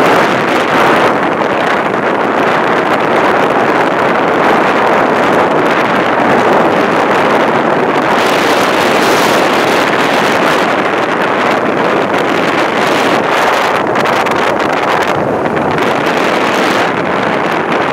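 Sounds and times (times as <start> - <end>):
road noise: 0.0 - 17.9
wind on microphone: 0.0 - 17.9.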